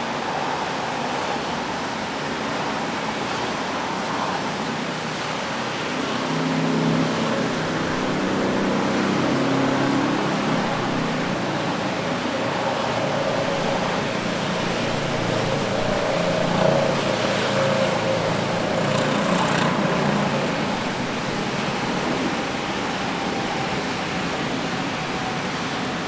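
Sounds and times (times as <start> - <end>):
rain hissing on street: 0.0 - 26.0
traffic engines humming: 0.0 - 26.0.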